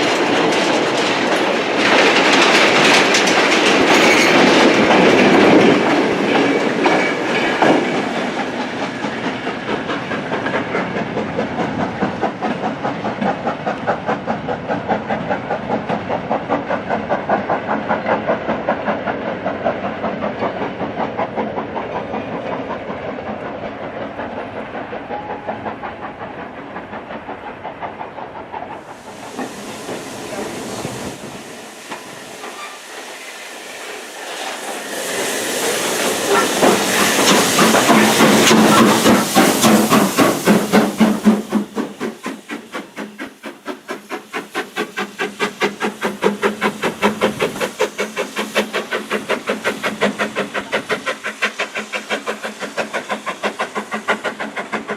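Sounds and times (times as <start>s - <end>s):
steam hissing: 0.0s - 54.9s
train wheels clattering on rails: 0.0s - 54.9s.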